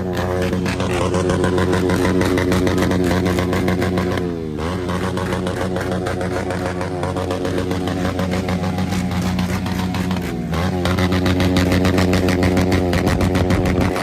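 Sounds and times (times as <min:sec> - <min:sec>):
motorcycle engine high revs: 0:00.0 - 0:14.0.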